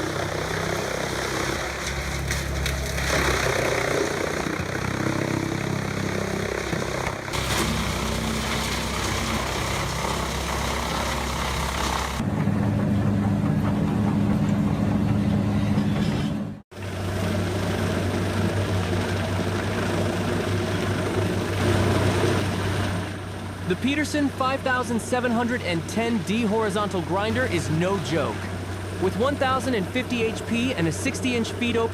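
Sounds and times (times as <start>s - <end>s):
large machine engines running: 0.0s - 31.9s.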